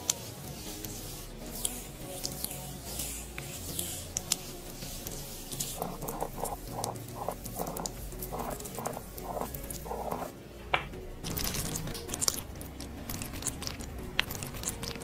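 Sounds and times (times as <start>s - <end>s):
brush spreading gel on skin: 0.0s - 10.3s, 11.2s - 15.0s
plastic roller massager rolling: 0.0s - 10.4s, 11.2s - 15.0s.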